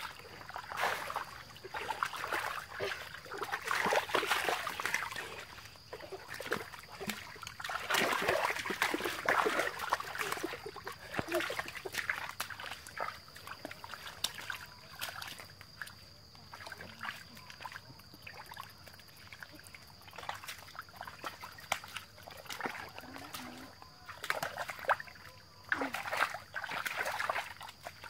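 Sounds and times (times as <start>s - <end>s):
splashing in muddy water: 0.0s - 28.0s.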